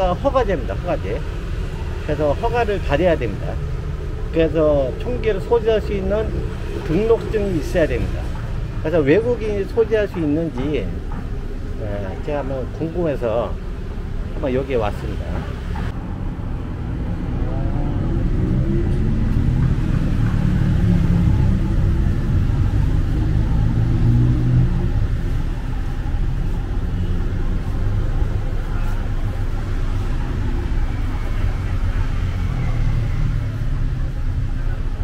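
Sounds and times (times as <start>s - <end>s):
traffic engine rumble: 0.0s - 35.0s.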